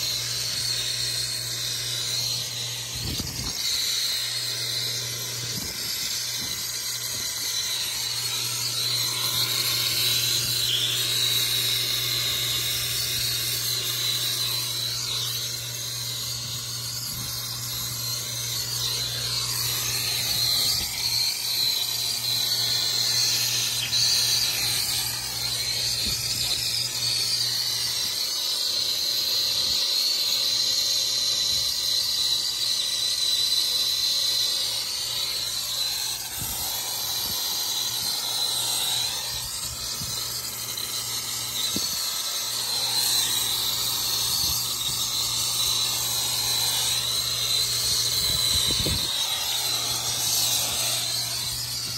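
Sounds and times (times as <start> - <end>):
torch flame hissing: 0.0 - 51.9.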